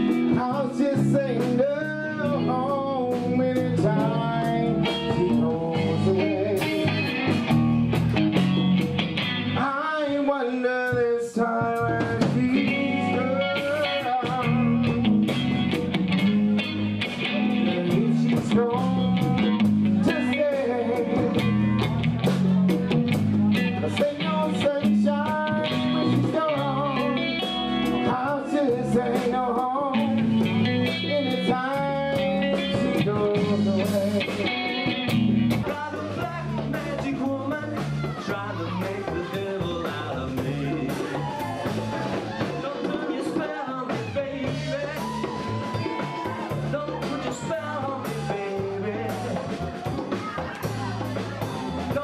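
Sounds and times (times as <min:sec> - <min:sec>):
man singing: 0:00.0 - 0:07.7, 0:09.5 - 0:50.4, 0:51.1 - 0:52.0
bass guitar: 0:00.0 - 0:52.0
live band playing: 0:00.0 - 0:52.0.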